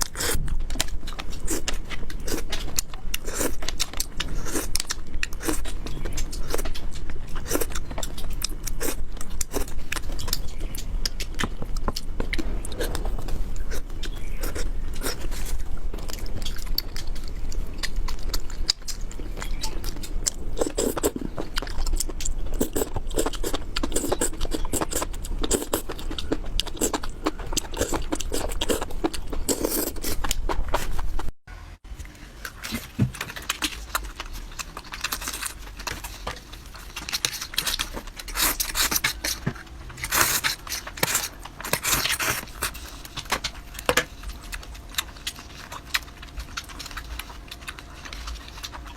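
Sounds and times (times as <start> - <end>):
wet chewing and biting: 0.0 - 31.3, 32.5 - 48.9.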